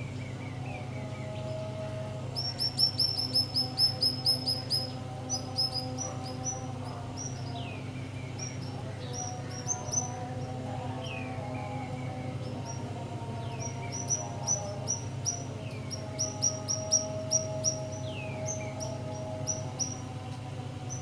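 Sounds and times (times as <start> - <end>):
small birds chirping: 2.4 - 21.0.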